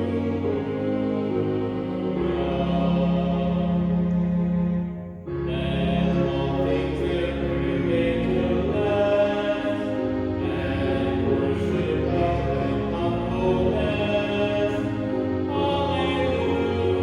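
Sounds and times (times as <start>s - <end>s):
voices singing chant-like music: 0.0s - 17.0s.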